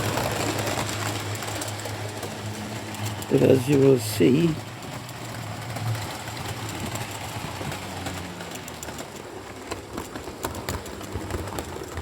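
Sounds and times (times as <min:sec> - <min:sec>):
wheels clicking over rail joints: 0:00.0 - 0:12.0.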